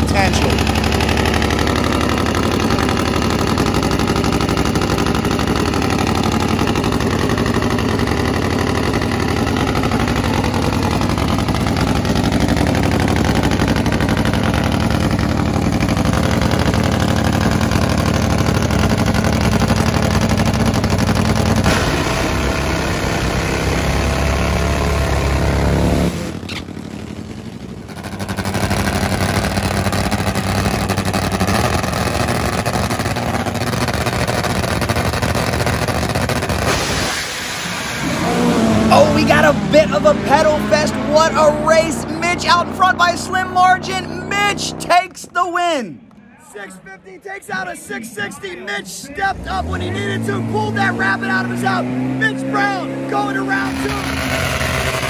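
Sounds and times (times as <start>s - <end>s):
motorcycle engines running loud: 0.0s - 36.9s, 37.6s - 45.1s, 49.3s - 55.0s.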